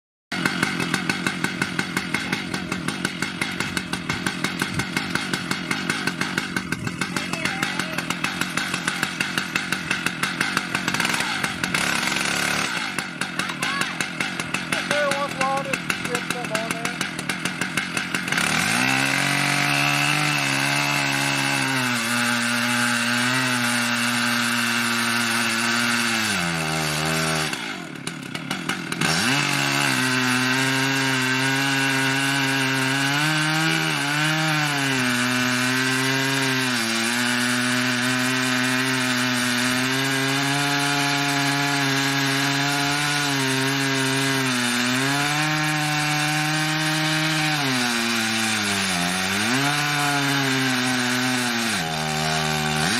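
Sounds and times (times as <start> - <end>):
chainsaw cutting log: 0.3 - 52.9.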